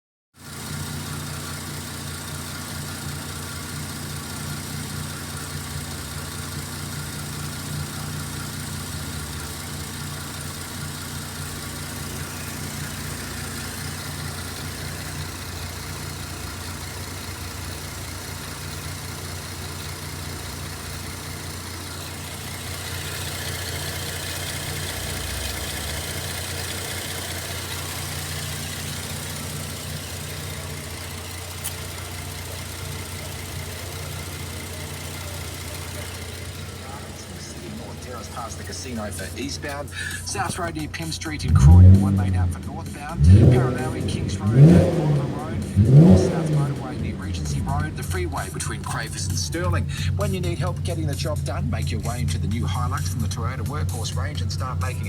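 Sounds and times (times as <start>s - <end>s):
car engine idling: 0.4s - 55.0s.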